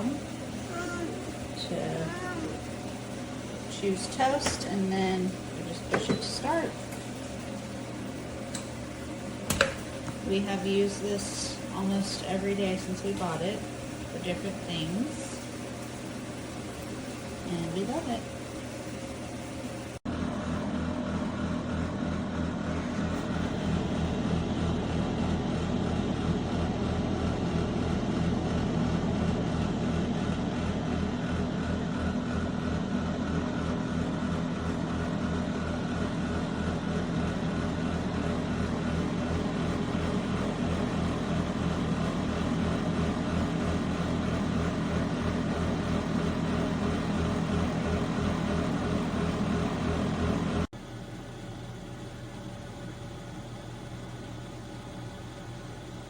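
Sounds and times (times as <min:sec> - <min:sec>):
air fryer fan humming: 0:00.0 - 0:56.0.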